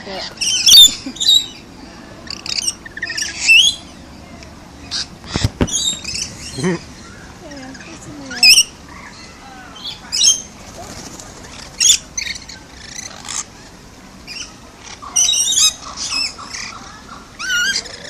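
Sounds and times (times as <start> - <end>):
parrots squawking: 0.0 - 1.6, 2.2 - 4.0, 4.8 - 10.6, 11.4 - 18.0.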